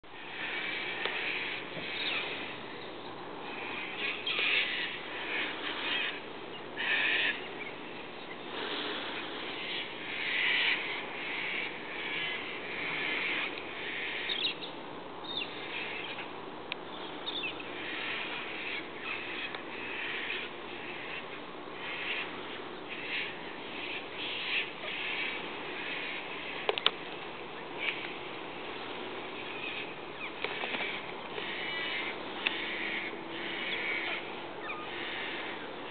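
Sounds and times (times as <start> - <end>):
flock of birds calling: 0.1 - 35.9.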